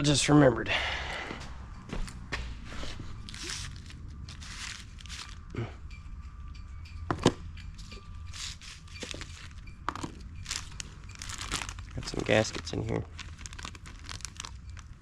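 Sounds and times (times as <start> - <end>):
parts and tools being handled: 2.0 - 6.0, 6.9 - 15.0.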